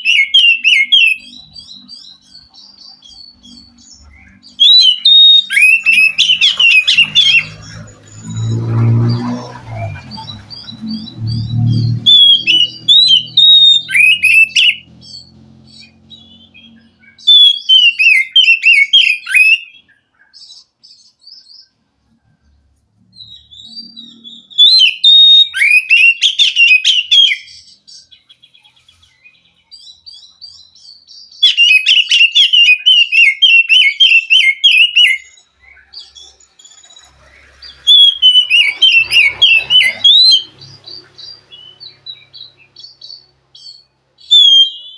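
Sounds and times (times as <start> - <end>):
bird singing whistled notes: 0.0 - 21.8, 23.2 - 44.9.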